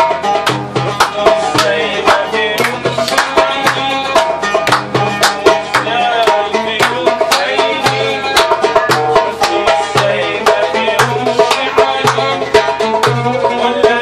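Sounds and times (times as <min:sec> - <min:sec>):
frame drum beat: 0:00.0 - 0:14.0
plucked oud melody: 0:00.0 - 0:14.0.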